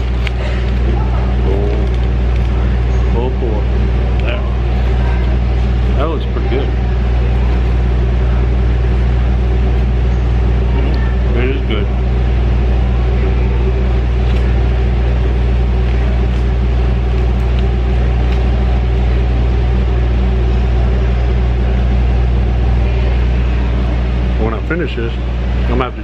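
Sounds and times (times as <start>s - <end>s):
low machine drone: 0.0s - 26.0s.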